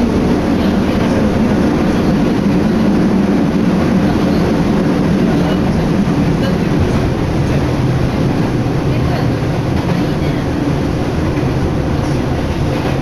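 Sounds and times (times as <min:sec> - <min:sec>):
electric train rumbling at speed: 0:00.0 - 0:13.0
wind buffeting microphone: 0:00.0 - 0:13.0.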